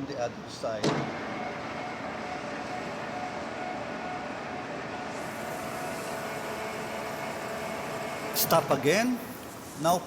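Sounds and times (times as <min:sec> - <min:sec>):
lathe humming: 0:01.1 - 0:10.0.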